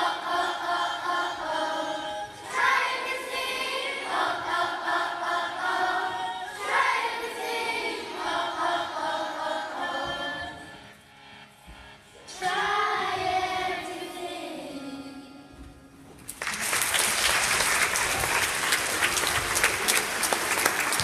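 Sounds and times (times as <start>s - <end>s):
children's choir singing: 0.0s - 11.0s, 12.2s - 15.8s, 17.2s - 21.0s.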